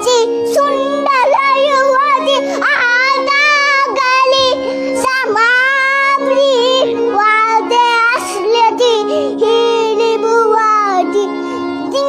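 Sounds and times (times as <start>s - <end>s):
harmonium drone: 0.0s - 12.0s.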